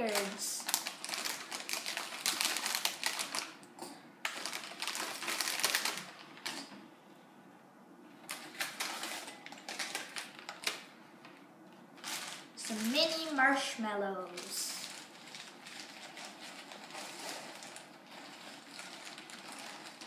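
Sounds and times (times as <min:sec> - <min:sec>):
plastic snack bag crinkling: 0:00.0 - 0:06.7, 0:08.2 - 0:10.9, 0:12.0 - 0:20.0.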